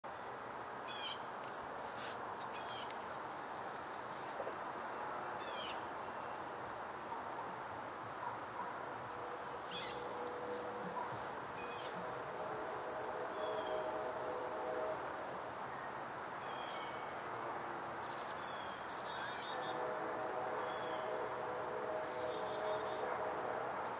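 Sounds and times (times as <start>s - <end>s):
steady background hiss: 0.0s - 23.9s
high insect drone: 0.1s - 23.9s.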